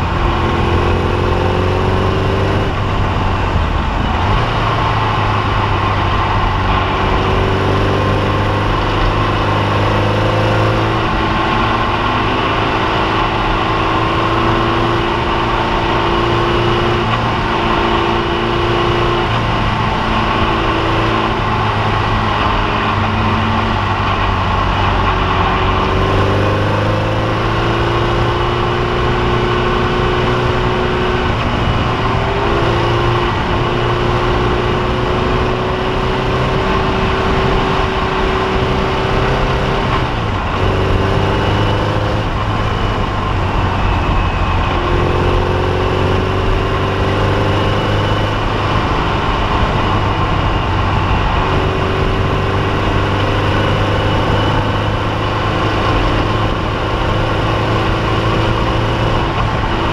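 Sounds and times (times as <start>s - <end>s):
racing car engine shifting gears: 0.0s - 59.9s
wind and road noise: 0.0s - 59.9s.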